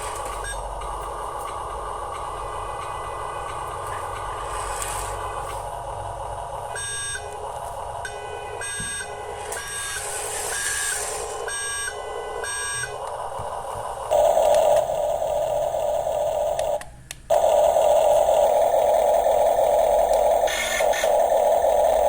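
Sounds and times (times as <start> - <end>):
electric motor and gears whine: 0.0 - 22.0.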